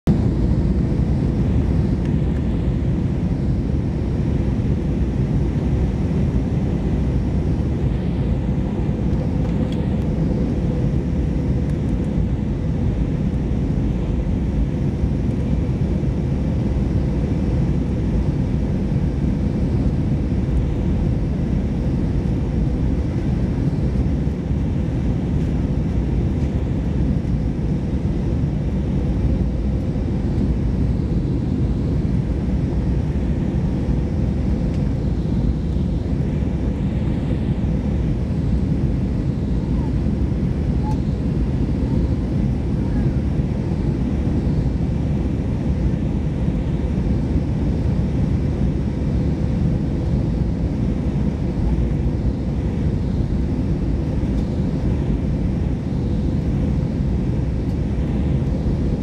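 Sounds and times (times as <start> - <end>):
aircraft engines rumbling: 0.1 - 59.0
faint steady hum: 0.1 - 59.0.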